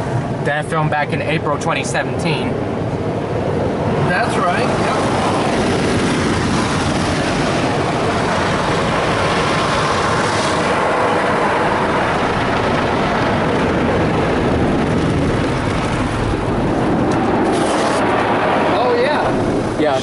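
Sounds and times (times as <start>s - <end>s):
water spraying on car: 3.3s - 20.0s.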